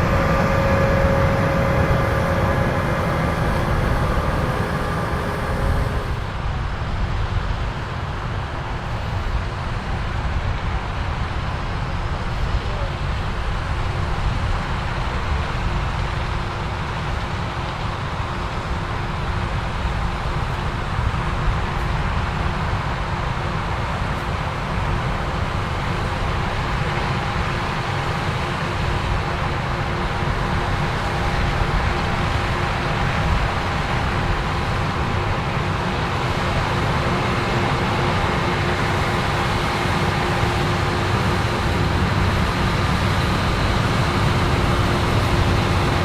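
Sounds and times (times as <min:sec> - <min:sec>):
combine harvester rumbling and whining: 0:00.0 - 0:46.0.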